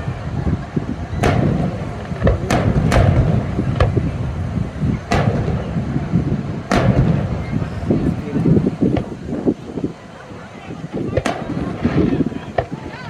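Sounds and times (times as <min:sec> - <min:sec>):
fireworks bursting: 0:00.0 - 0:13.0
wind rumble on microphone: 0:00.0 - 0:13.0.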